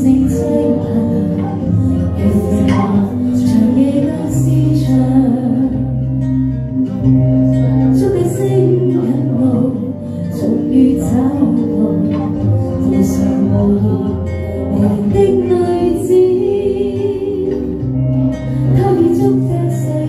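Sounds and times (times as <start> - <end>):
karaoke backing track: 0.0 - 20.0
woman singing into a microphone: 0.0 - 20.0.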